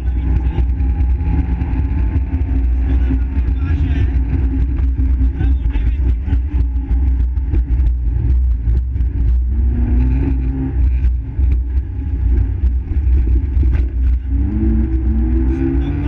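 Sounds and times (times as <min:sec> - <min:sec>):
car engine at speed: 0:00.0 - 0:16.0
road and wind rumble: 0:00.0 - 0:16.0.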